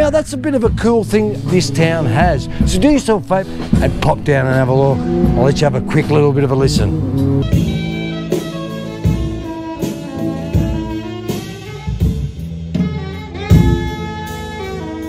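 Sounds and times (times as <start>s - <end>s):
jazz music: 0.5s - 15.0s.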